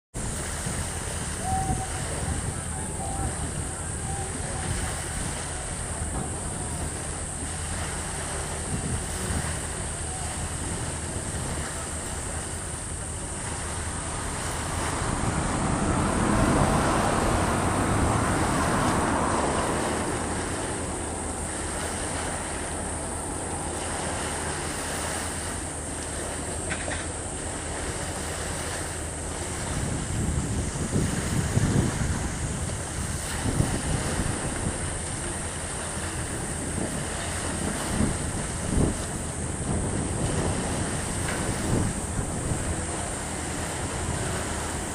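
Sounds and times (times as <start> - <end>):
boat motor hum: 0.1 - 44.9
sea water: 0.1 - 44.9
wind on microphone: 0.1 - 44.9.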